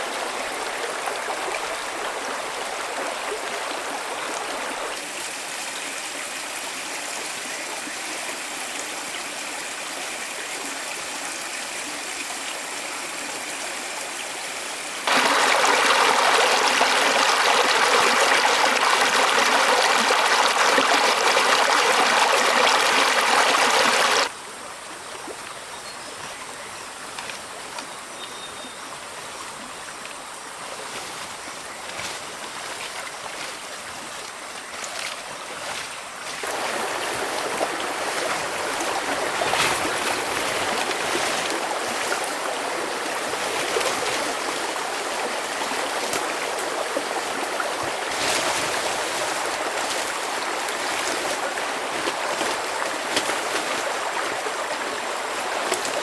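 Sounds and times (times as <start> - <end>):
stream water rushing: 0.0 - 24.4, 29.0 - 56.0.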